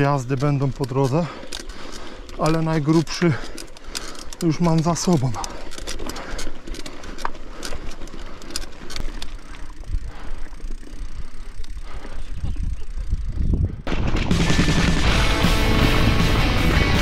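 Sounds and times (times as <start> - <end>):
bike rattling clicks: 0.0 - 13.9
bike tyre rumble on dirt: 0.0 - 16.4.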